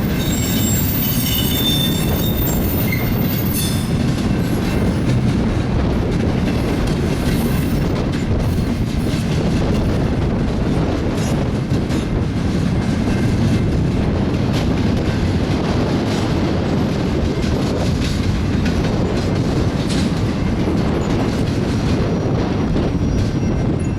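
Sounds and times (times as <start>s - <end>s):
train wheels clacking over rail joints: 0.0s - 23.9s.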